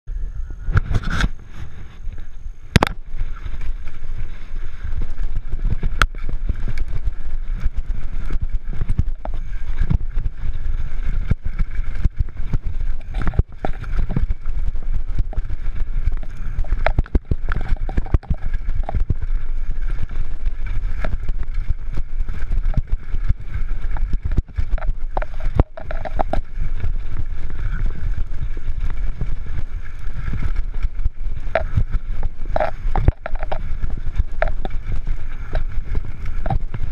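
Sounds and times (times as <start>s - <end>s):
bike tyres rumbling on dirt: 0.1s - 36.9s
bike knocking and rattling: 2.7s - 36.9s.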